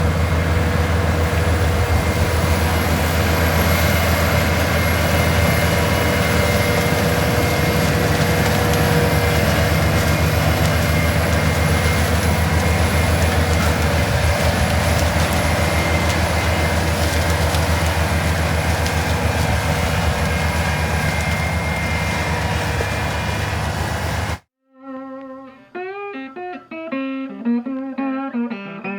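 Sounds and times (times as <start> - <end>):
harvesting machinery engine drone: 0.0 - 24.4.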